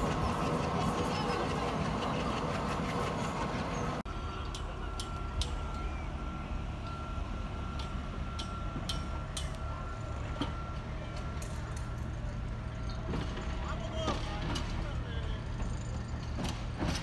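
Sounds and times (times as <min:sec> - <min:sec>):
wheels clicking over rail joints: 0:00.0 - 0:06.0, 0:07.7 - 0:17.0
train low rumble: 0:00.0 - 0:17.0.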